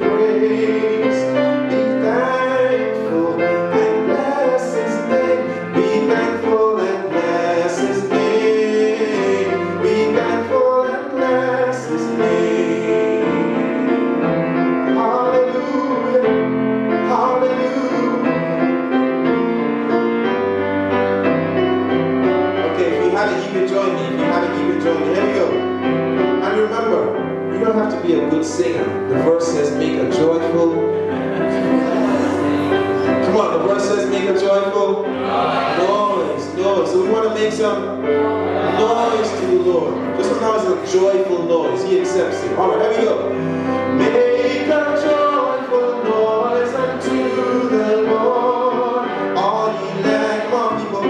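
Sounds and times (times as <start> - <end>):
slow gospel piano chords: 0.0 - 51.0.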